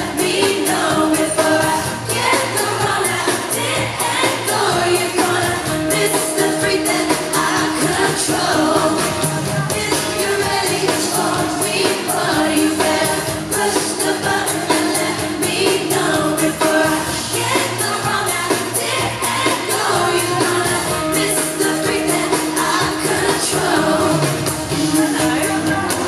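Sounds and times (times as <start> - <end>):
pop band playing: 0.0 - 26.0
women singing: 0.0 - 26.0.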